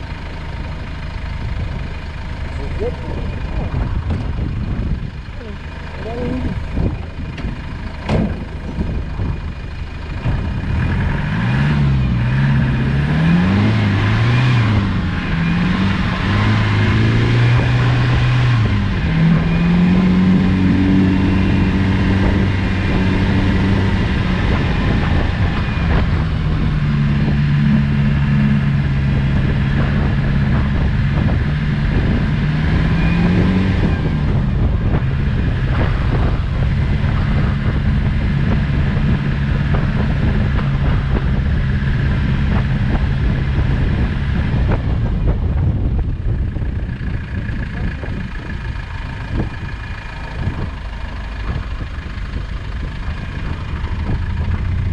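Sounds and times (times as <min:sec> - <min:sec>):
diesel engine pulling under load: 0:00.0 - 0:54.9.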